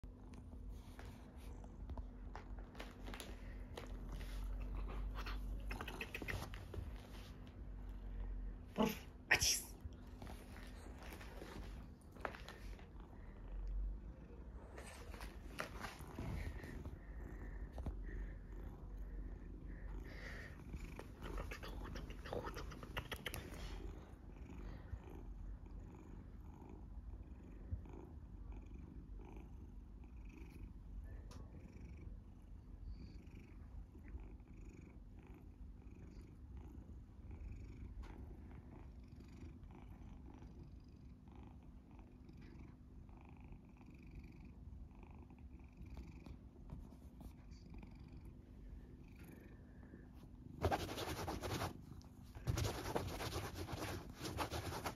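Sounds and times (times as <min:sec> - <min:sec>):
cat purring: 0:00.0 - 0:09.2, 0:09.8 - 0:54.9.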